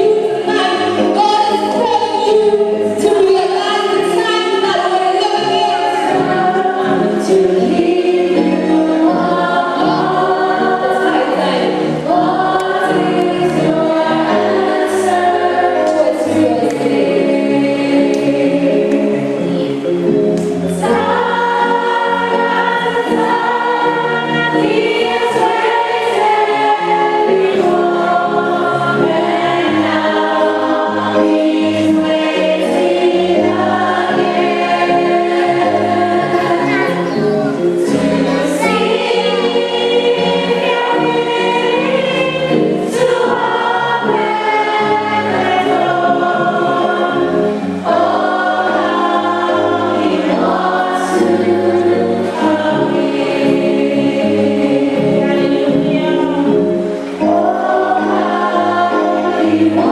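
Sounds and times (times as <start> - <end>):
choir singing a hymn: 0.0 - 59.9
instrumental accompaniment: 0.0 - 59.9.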